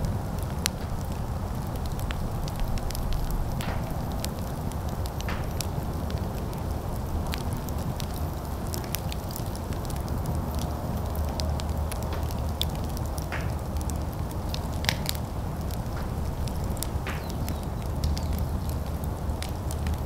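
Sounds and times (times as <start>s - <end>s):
low rumble: 0.0s - 20.0s
wood fire crackling and popping: 0.0s - 20.0s.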